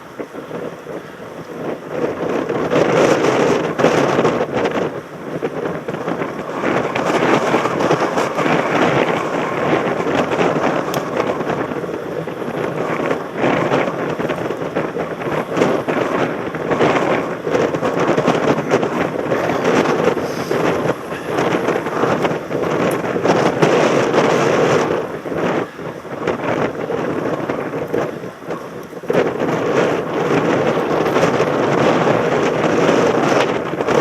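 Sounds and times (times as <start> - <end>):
bike rattling over rough ground: 0.0 - 34.0
wind buffeting microphone: 0.0 - 34.0.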